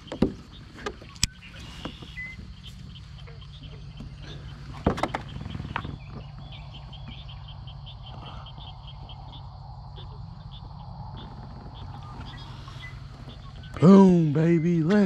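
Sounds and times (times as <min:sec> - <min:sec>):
low hum: 0:00.0 - 0:15.0
rhythmic high chirping call: 0:00.0 - 0:15.0.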